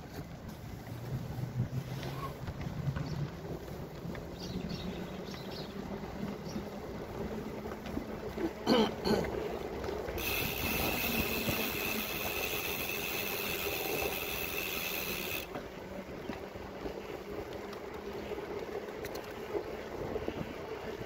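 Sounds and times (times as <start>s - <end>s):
bicycle rolling over paving: 0.0s - 21.0s.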